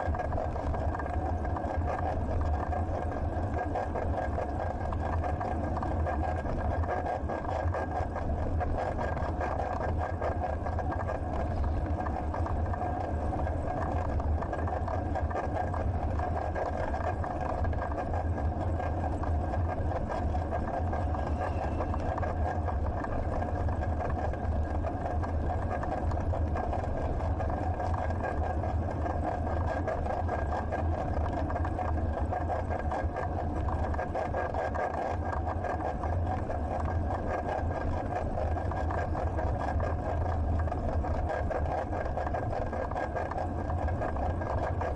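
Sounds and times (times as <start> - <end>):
thin steady whine: 0.0 - 44.9.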